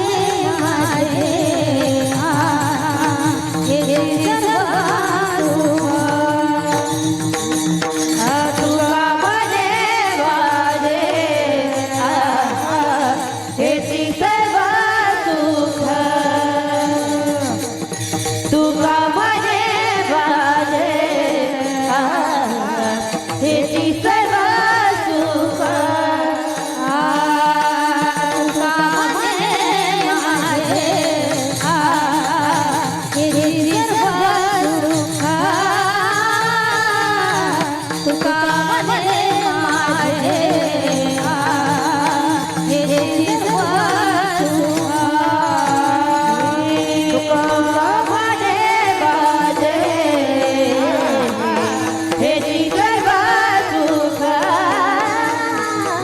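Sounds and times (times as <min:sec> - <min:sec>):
devotional singing: 0:00.0 - 0:56.0.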